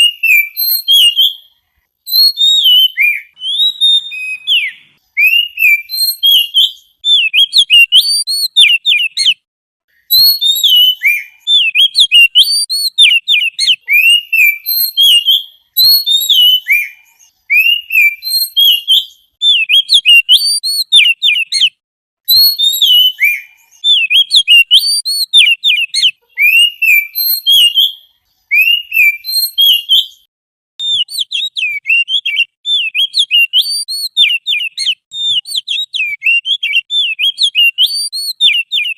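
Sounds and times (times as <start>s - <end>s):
songbird whistling: 0.0s - 38.9s.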